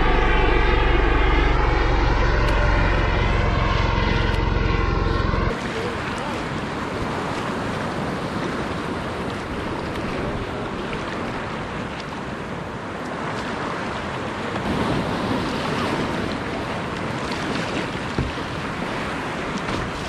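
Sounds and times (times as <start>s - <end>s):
ocean water washing: 0.0s - 20.0s
wind on microphone: 0.0s - 20.0s.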